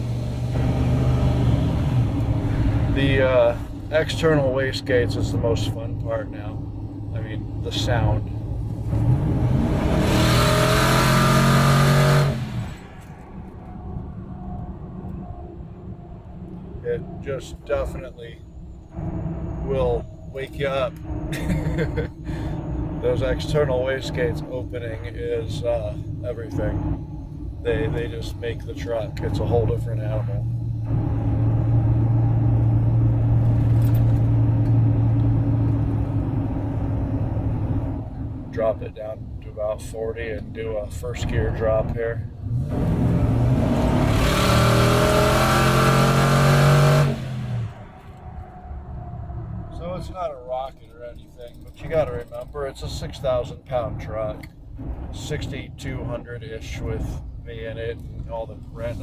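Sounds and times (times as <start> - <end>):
turbocharged engine pulling hard: 0.0 - 13.7, 16.9 - 59.0.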